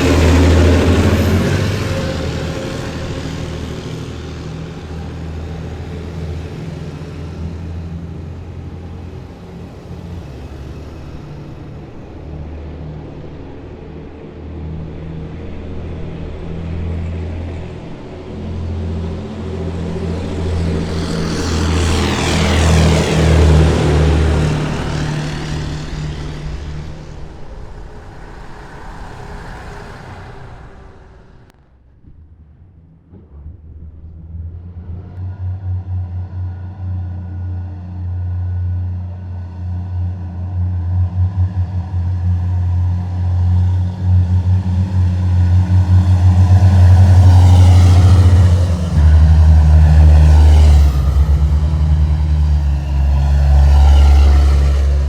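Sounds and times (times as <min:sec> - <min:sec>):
military vehicles driving past: 0:00.0 - 0:55.0.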